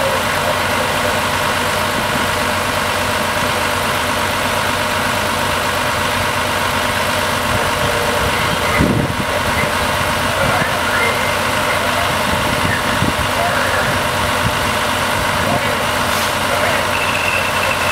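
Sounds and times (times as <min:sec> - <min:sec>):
diesel engine idling: 0:00.0 - 0:17.9.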